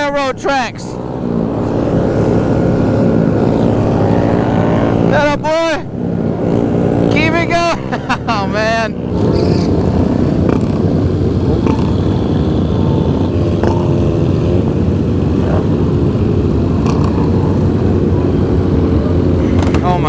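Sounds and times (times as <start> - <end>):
motorcycle engines cruising: 0.0 - 20.0.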